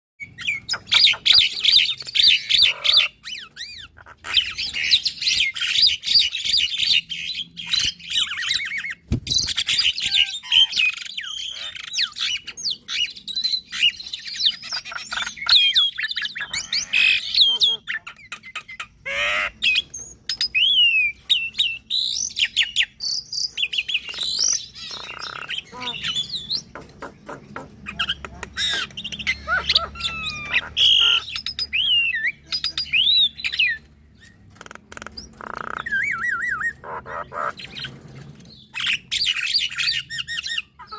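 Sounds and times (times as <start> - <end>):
birds singing: 0.2 - 40.9.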